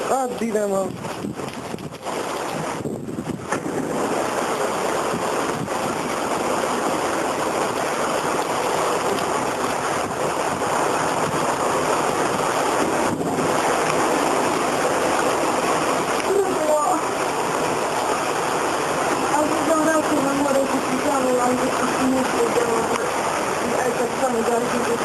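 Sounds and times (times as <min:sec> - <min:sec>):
strong wind and rain: 0:00.0 - 0:25.0
wind buffeting microphone: 0:00.0 - 0:25.0.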